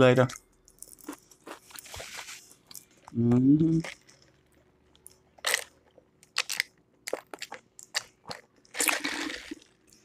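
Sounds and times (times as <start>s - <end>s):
person chewing crunchy food: 0.9s - 3.2s, 3.8s - 10.0s.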